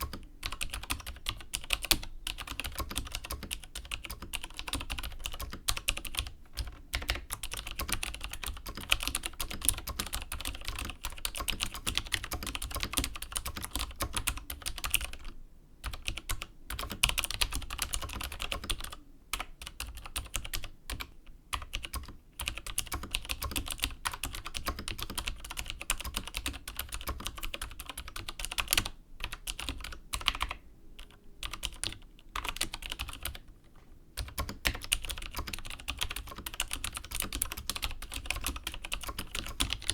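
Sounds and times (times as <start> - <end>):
mechanical keyboard typing: 0.0 - 33.5, 34.2 - 39.9.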